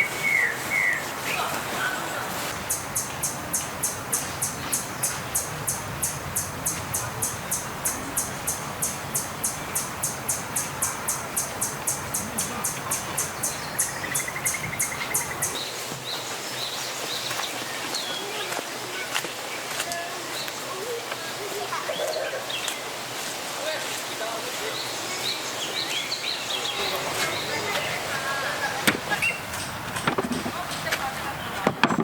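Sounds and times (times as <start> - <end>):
wind through forest: 0.0 - 32.0.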